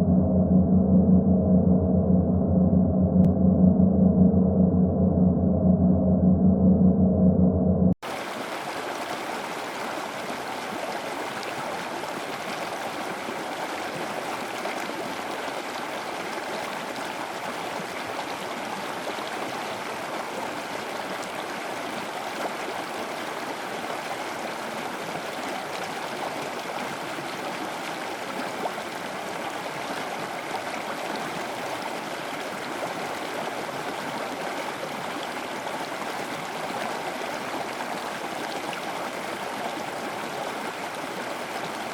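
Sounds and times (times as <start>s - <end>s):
stream water rushing: 8.0s - 41.9s.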